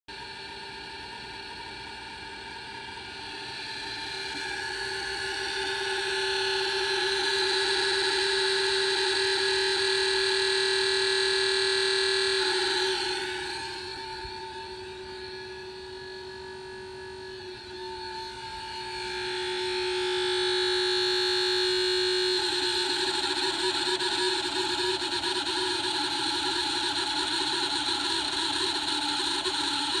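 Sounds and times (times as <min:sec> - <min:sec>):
cooling fan whine: 0:00.1 - 0:30.0.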